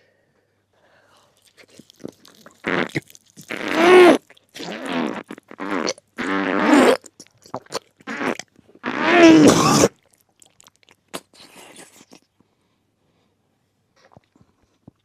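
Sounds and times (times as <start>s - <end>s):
mouth sounds of eating: 1.0s - 12.4s, 14.0s - 15.0s.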